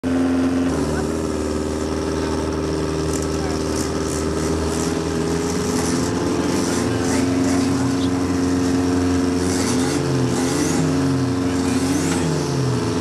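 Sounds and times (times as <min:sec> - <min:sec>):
racing car engine idling: 0:00.0 - 0:13.0.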